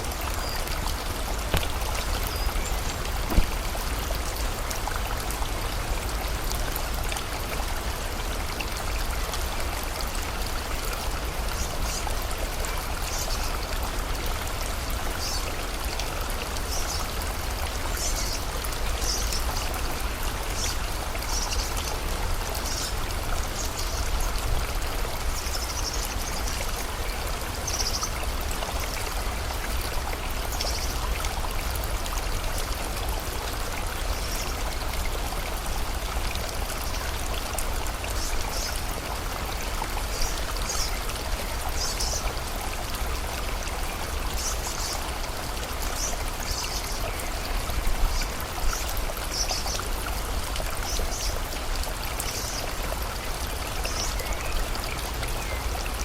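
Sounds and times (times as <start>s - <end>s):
rain: 0.0s - 56.0s
river water running: 0.0s - 56.0s.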